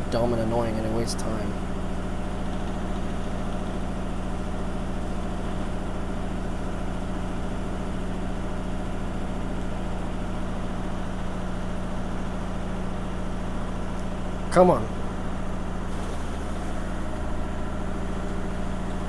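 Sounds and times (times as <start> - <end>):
washing machine drum spinning: 0.0 - 19.0.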